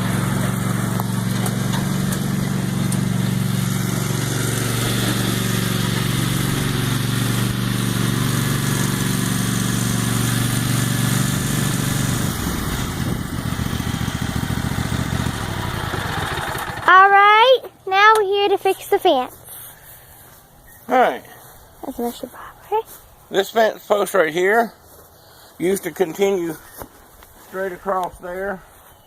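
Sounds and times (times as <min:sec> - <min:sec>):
riding lawn mower engine running: 0:00.0 - 0:29.0.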